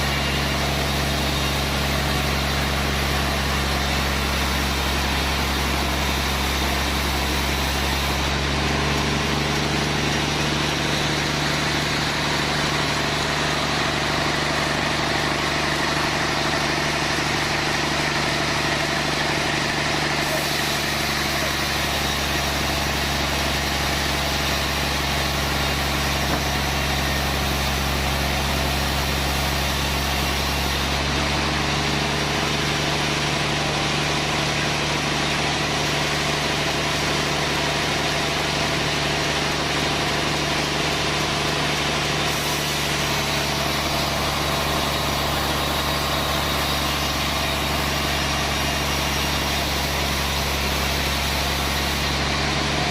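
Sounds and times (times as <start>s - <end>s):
sawmill machinery drone: 0.0s - 52.9s.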